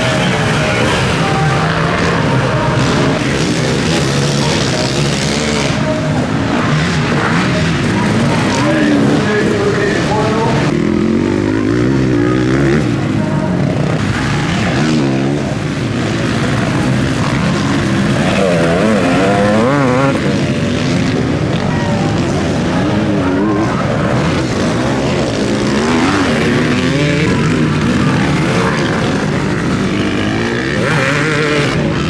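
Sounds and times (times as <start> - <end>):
motocross motorcycles revving: 0.0 - 32.0.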